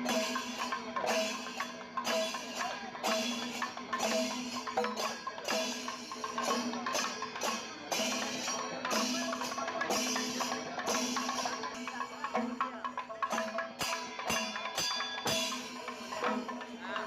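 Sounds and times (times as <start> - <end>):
background music with percussive beat: 0.0 - 17.0.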